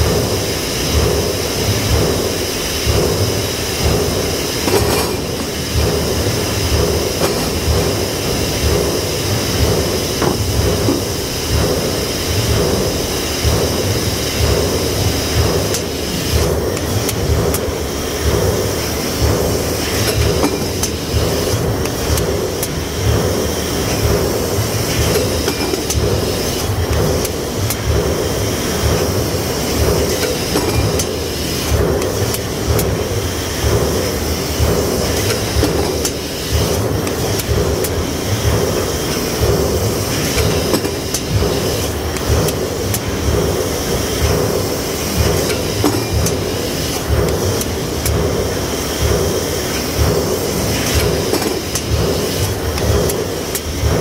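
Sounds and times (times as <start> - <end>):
industrial presses running: 0.0 - 54.0.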